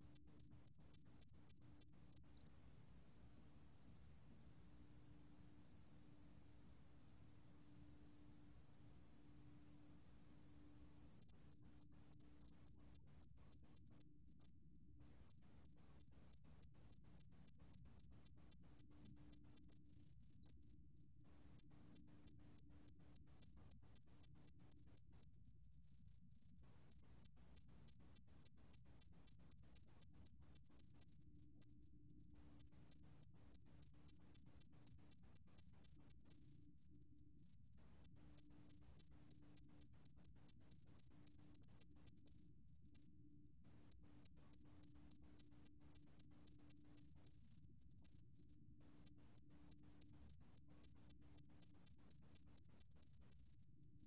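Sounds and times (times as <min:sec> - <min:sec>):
cricket chirping: 0:00.0 - 0:02.6, 0:11.2 - 0:54.0.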